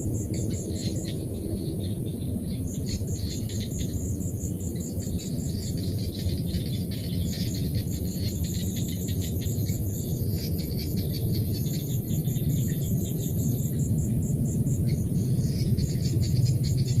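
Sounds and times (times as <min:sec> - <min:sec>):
insect chirping: 0:00.0 - 0:17.0
rattling insect calls: 0:00.0 - 0:17.0.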